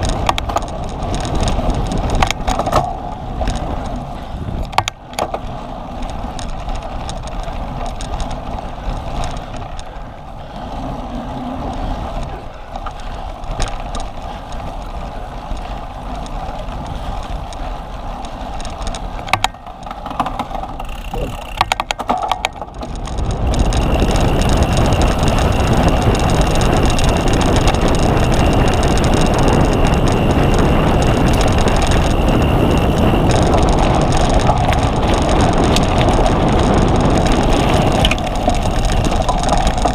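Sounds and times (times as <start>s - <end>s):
wind on microphone: 0.0s - 9.8s, 10.5s - 39.9s
bike rolling rumble and rattle: 0.0s - 39.9s.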